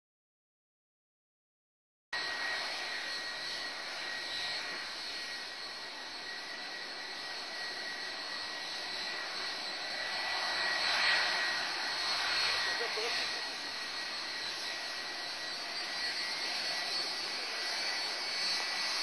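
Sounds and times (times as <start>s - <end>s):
jet engines whining: 2.2s - 19.0s.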